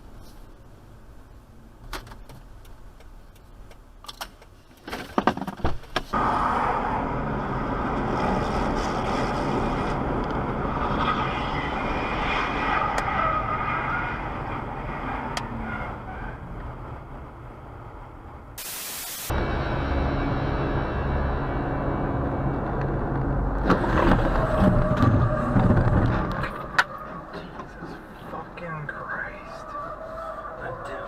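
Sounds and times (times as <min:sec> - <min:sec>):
moving car road and engine noise: 0:00.0 - 0:18.6, 0:19.2 - 0:31.0.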